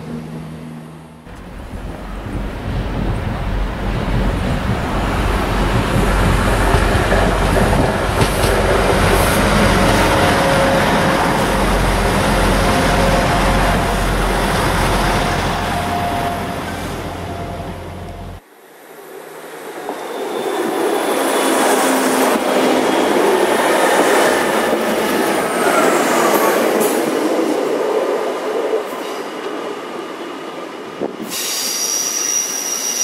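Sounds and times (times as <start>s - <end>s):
train engine and wheel rumble: 0.0s - 33.0s.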